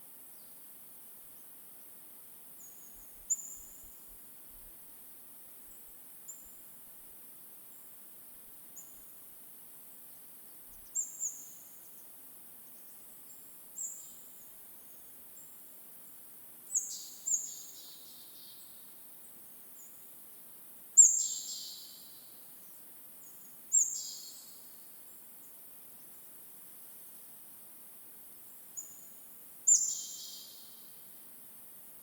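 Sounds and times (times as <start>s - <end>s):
forest ambience hiss: 0.0s - 32.0s.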